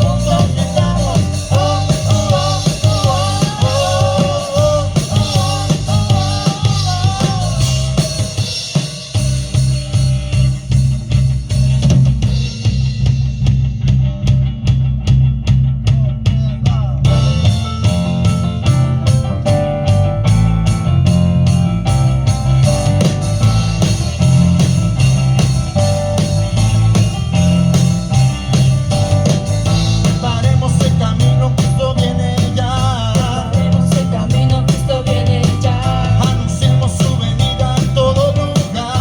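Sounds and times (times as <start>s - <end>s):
bass: 0.0s - 39.0s
drum kit beat: 0.0s - 39.0s.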